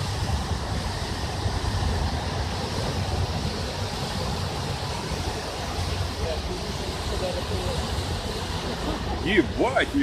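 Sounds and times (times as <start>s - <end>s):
traffic on flooded road: 0.0s - 10.0s
wind buffeting microphone: 0.0s - 10.0s.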